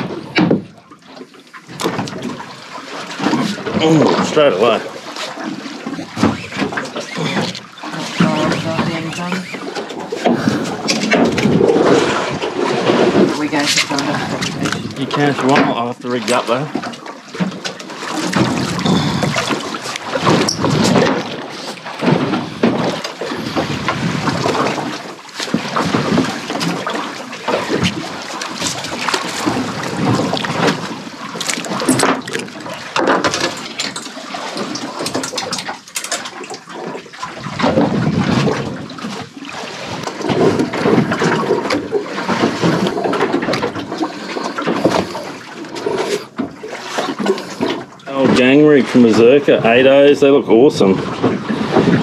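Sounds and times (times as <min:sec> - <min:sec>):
water splashing against boat: 0:00.0 - 0:52.0.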